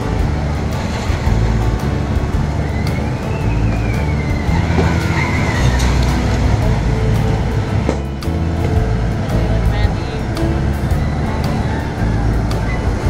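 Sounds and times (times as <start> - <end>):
amusement park music: 0.0 - 13.0
heavy low rumble: 0.0 - 13.0
high rising and falling tone: 0.0 - 13.0
road traffic: 0.0 - 13.0.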